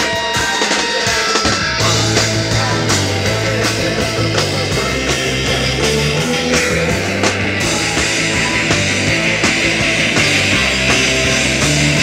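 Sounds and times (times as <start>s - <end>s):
drum kit beating: 0.0s - 12.0s
live rock band playing: 0.0s - 12.0s.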